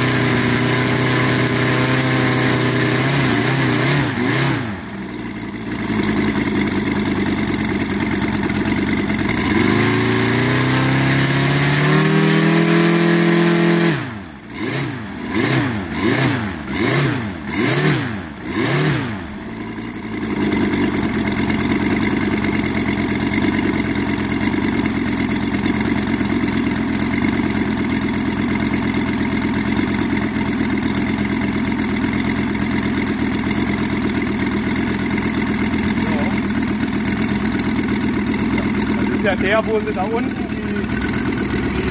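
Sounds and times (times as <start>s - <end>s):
model aircraft engine running: 0.0s - 41.9s.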